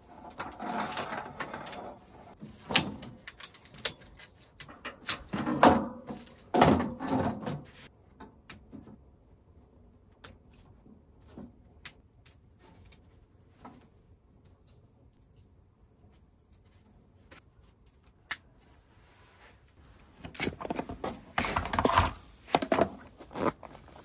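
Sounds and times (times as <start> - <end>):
rustling with clicks and knocks: 0.0 - 24.0.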